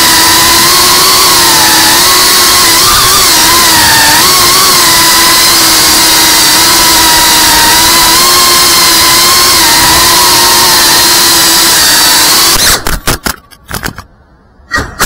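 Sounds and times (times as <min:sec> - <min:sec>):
drone motors whining: 0:00.0 - 0:12.9.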